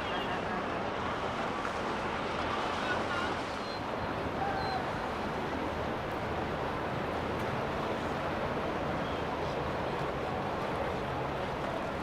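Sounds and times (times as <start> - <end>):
wind: 0.0 - 12.0
water noise: 0.9 - 12.0.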